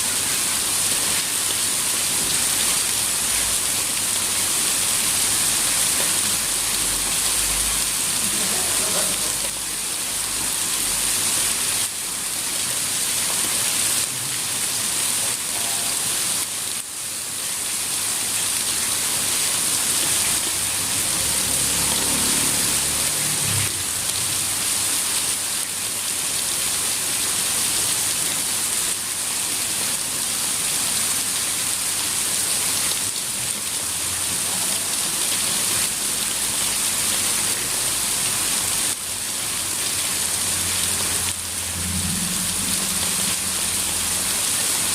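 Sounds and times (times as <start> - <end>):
rain pouring: 0.0 - 44.9.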